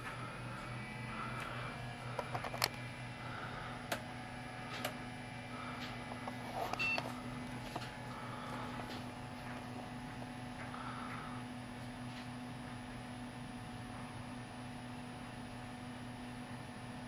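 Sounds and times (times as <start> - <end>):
computer fan hum: 0.0 - 17.0.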